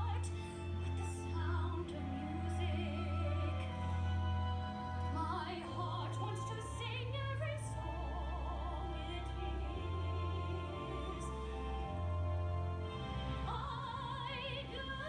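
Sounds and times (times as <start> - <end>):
woman singing operatically: 0.0 - 12.8, 13.4 - 15.0
sustained low accompaniment: 0.0 - 15.0.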